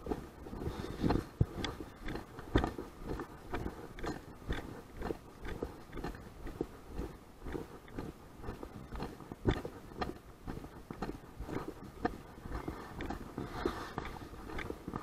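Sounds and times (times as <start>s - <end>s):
crunchy footsteps walking: 0.0s - 15.0s
wind rumbling on microphone: 0.0s - 15.0s.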